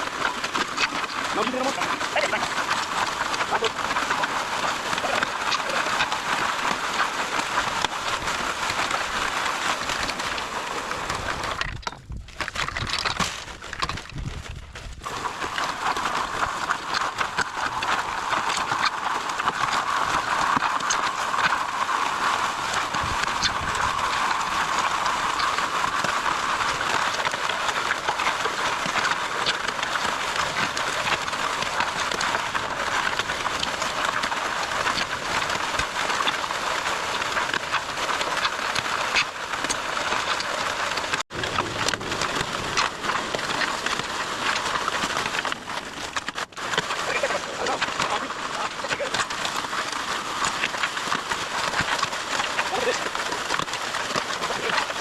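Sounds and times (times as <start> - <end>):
concrete mixer running: 0.0 - 55.0.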